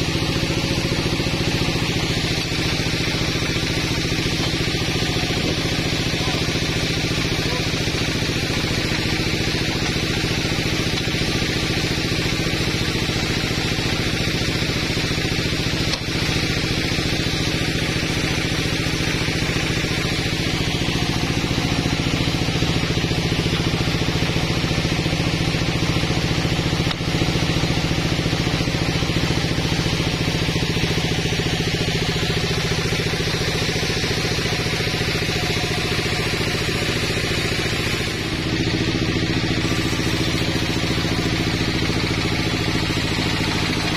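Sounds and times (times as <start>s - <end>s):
sawmill saw motor drone: 0.0s - 43.9s.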